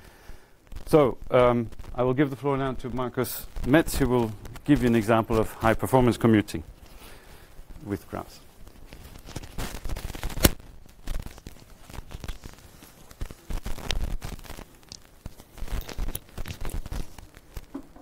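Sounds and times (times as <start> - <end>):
cloth rustling against microphone: 0.6 - 18.0.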